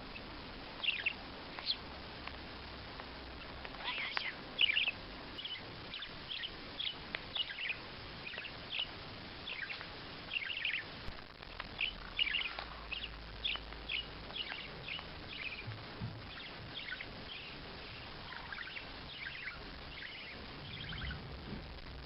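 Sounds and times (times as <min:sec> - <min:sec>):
small bird chirping: 0:00.0 - 0:21.5.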